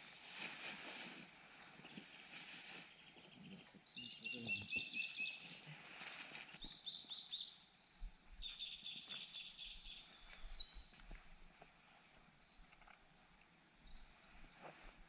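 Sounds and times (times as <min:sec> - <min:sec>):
songbirds singing: 0:01.6 - 0:11.5, 0:12.2 - 0:15.0.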